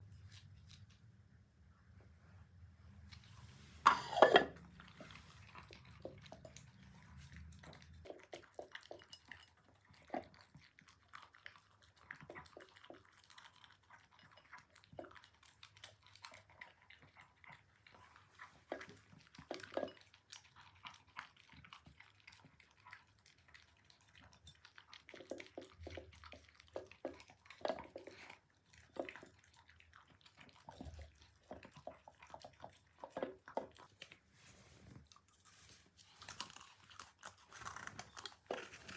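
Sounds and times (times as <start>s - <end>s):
dog chewing and crunching: 4.5s - 38.9s.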